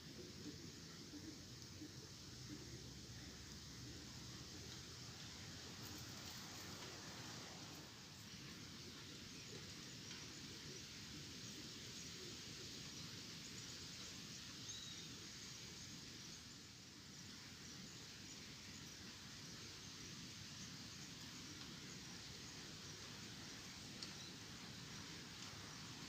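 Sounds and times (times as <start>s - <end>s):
outdoor ambience hiss: 0.0s - 26.0s.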